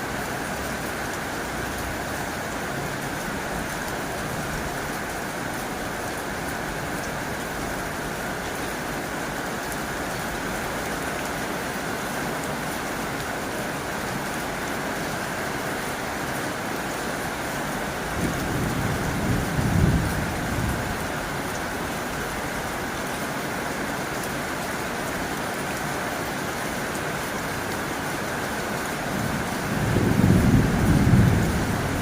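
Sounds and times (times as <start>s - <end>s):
heavy rain on a tin roof: 0.0s - 32.0s.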